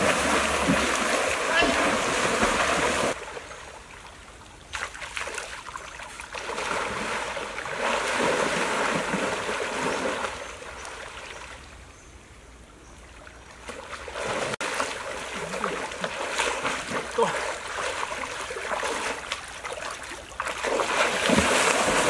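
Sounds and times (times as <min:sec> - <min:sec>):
people wading through water: 0:00.0 - 0:11.6, 0:13.3 - 0:22.0.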